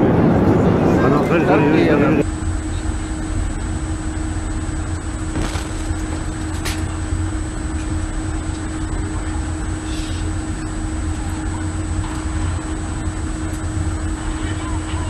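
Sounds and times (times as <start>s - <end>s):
low rumble with constant hum: 0.0s - 15.0s.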